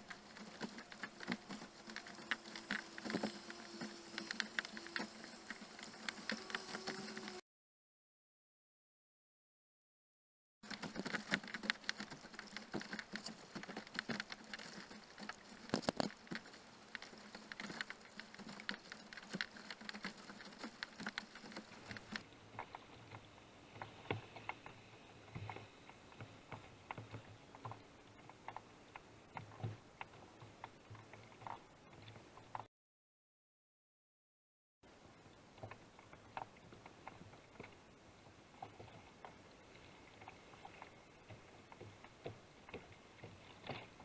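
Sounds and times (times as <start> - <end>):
paddle water drips and splashes: 0.0 - 7.0, 10.6 - 32.7, 34.9 - 44.0.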